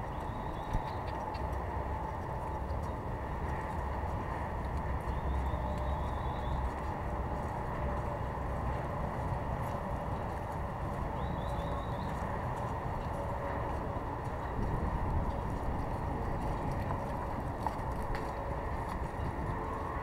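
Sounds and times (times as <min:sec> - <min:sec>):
horse hoofbeats on sand: 0:00.0 - 0:20.0.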